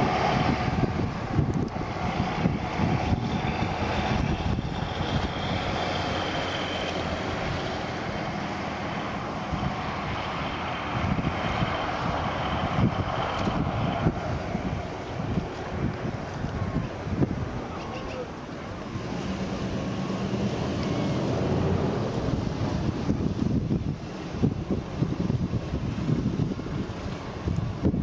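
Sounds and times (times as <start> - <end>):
shallow stream rushing: 0.0 - 28.0
wind buffeting microphone: 0.0 - 28.0.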